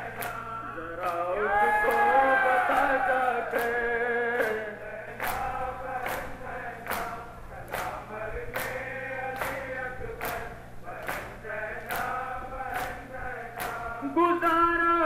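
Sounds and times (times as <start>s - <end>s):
male chorus singing lament: 0.0s - 15.0s
crowd beating chests in unison: 1.8s - 14.8s.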